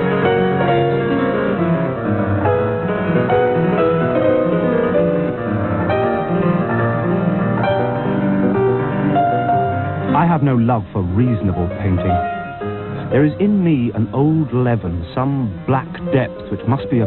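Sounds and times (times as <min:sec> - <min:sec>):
fast classical piano piece: 0:00.0 - 0:17.0.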